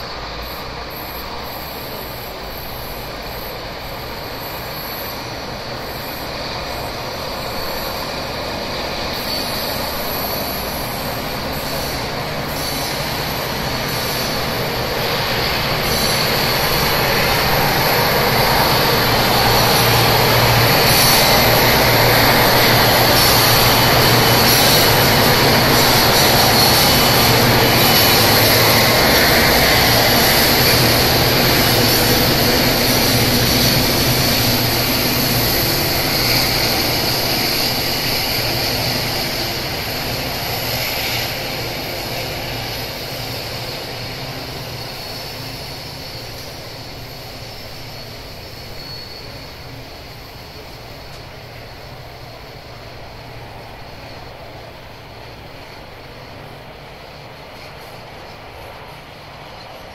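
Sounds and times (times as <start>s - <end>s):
diesel locomotives passing: 0.0s - 59.9s
high-pitched wheel squeal: 0.9s - 41.8s, 42.5s - 50.7s.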